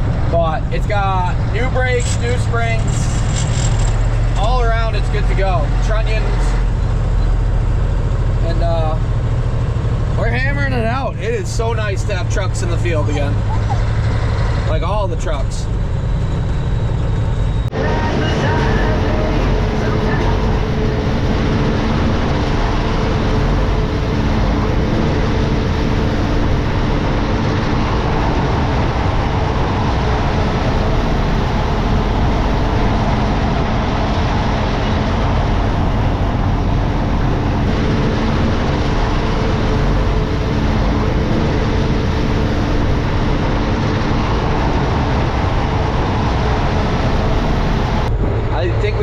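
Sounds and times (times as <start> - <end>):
road and rattle noise: 0.0 - 49.0
truck engine running: 0.0 - 49.0.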